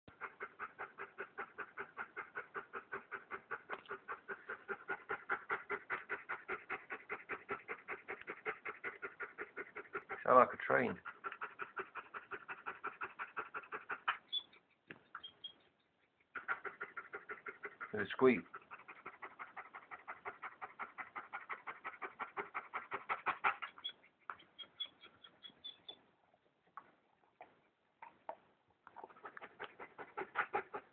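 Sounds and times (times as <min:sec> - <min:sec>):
dog panting fast: 0:00.1 - 0:14.8, 0:16.2 - 0:26.0, 0:29.0 - 0:30.9.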